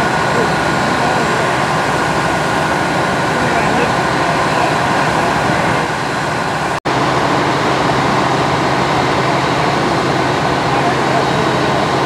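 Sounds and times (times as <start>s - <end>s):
fire engine pumps running: 0.0s - 12.0s.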